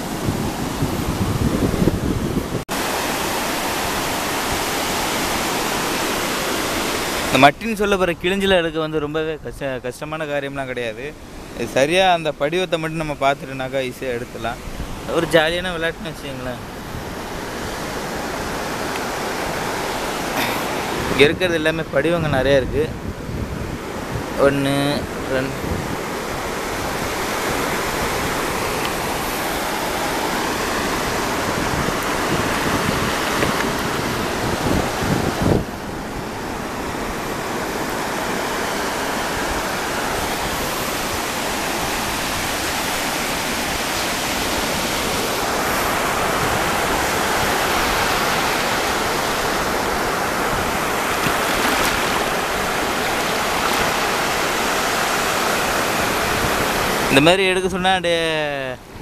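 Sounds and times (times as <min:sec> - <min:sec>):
wind on microphone: 0:00.0 - 0:07.4, 0:16.5 - 0:57.1
surf washing over sand: 0:00.0 - 0:59.0.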